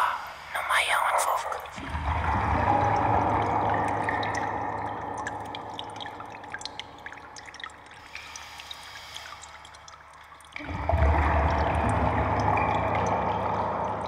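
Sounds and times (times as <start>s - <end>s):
faint drips and clicks: 0.0s - 14.0s.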